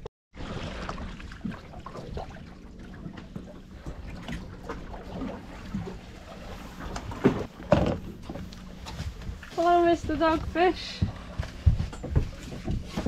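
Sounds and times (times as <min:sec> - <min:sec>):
water lapping against boat hull: 0:00.4 - 0:13.0.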